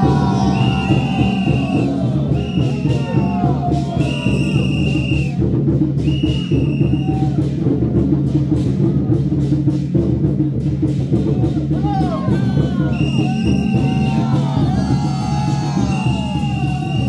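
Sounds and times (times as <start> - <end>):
procession music with heavy drums: 0.0 - 17.0.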